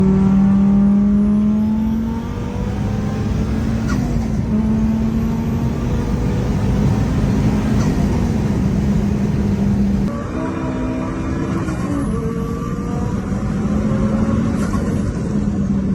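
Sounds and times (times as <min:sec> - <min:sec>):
loud car engine running: 0:00.0 - 0:15.9.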